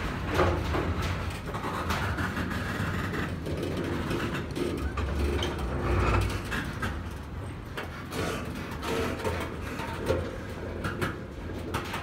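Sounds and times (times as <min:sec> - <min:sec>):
metallic creaks and rattles: 0:00.0 - 0:12.0.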